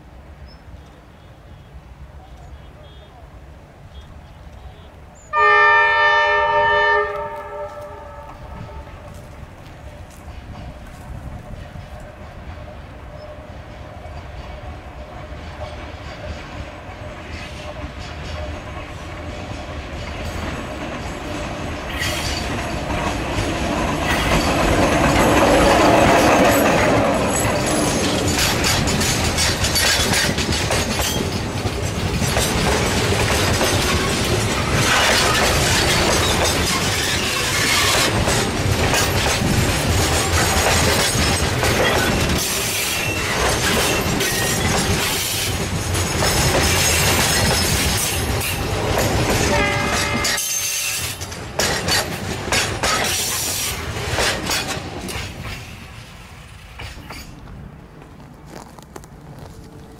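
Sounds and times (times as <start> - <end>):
electric locomotive passing: 0.0 - 59.9
wheels clicking over rail joints: 7.1 - 59.9.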